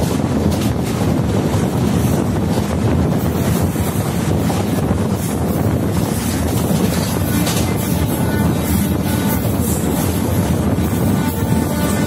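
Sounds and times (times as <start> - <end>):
train coaches rumbling: 0.0 - 12.0
wind on microphone: 0.0 - 12.0.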